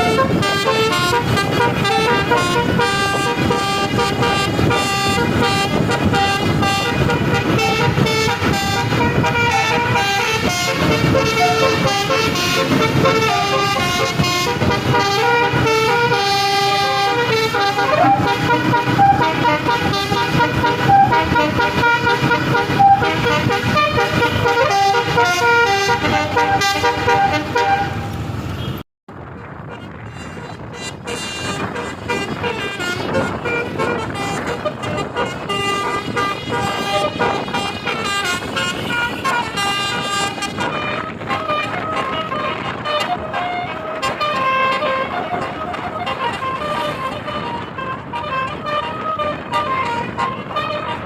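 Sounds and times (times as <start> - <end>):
bus horn playing a melody: 0.0 - 51.0
vehicle sound: 0.0 - 51.0.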